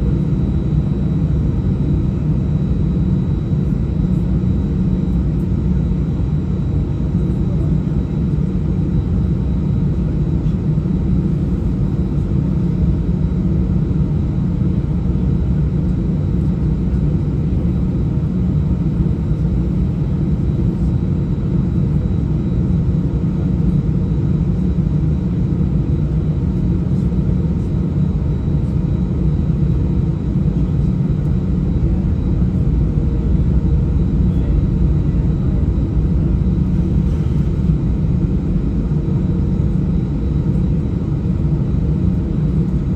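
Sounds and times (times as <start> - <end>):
jet engines rumbling from cabin: 0.0 - 42.9.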